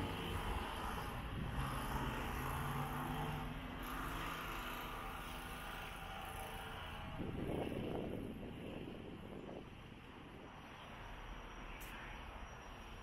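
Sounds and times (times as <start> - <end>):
street traffic passing: 0.0 - 13.0.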